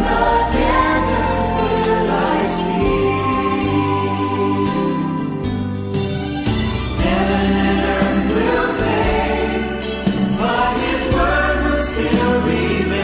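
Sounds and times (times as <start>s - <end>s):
choir singing gospel music: 0.0s - 13.0s.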